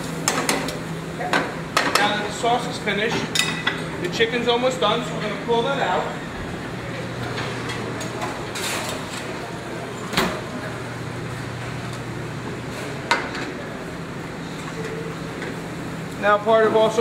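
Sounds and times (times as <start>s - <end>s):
exhaust hood humming: 0.0s - 17.0s.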